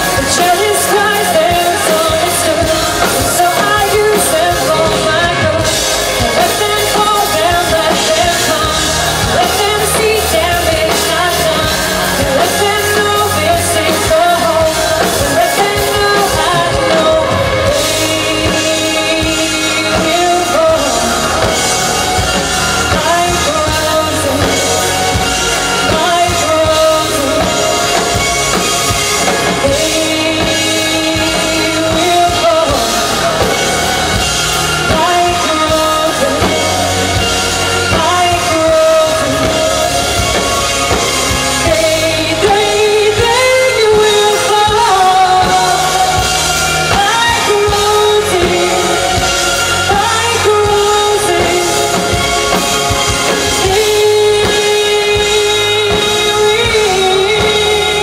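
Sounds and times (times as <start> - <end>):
backing instruments: 0.0 - 58.0
drum kit: 0.0 - 58.0
woman singing into a microphone: 0.0 - 58.0.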